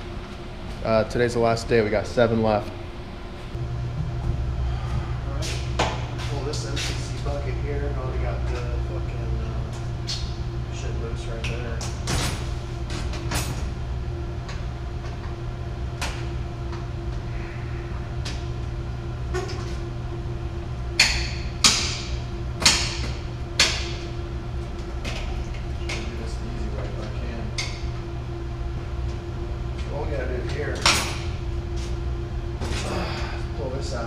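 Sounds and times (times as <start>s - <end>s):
steady electrical hum: 0.0s - 34.0s.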